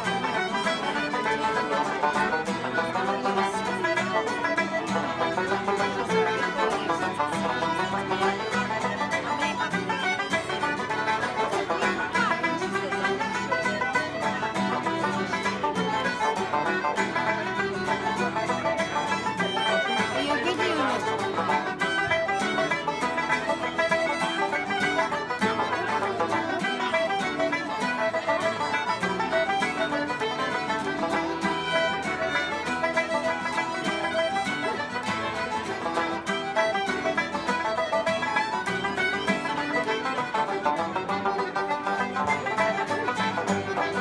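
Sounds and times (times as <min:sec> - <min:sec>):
fiddle dance tune: 0:00.0 - 0:44.0
plucked-string accompaniment: 0:00.0 - 0:44.0.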